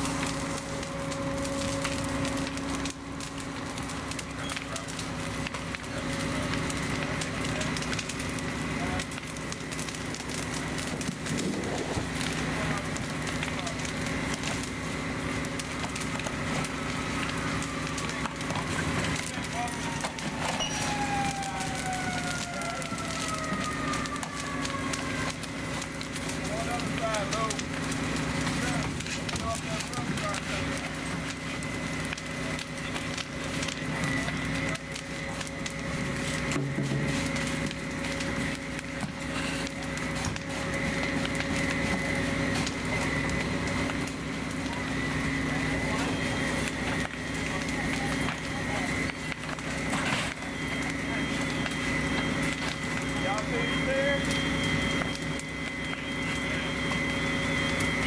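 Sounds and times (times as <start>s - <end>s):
burning house crackling: 0.0s - 58.0s
fire popping and snapping: 0.0s - 58.0s
steady engine drone: 0.0s - 58.0s.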